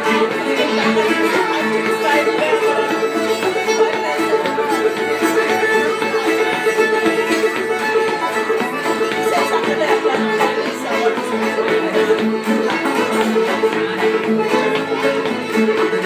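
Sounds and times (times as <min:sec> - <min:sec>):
banjo: 0:00.0 - 0:16.0
fiddle melody: 0:00.0 - 0:16.0.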